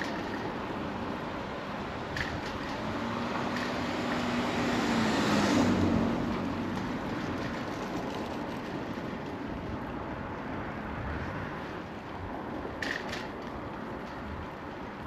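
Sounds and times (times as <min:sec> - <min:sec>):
bicycle rolling noise: 0:00.0 - 0:15.0
wind noise: 0:00.0 - 0:15.0.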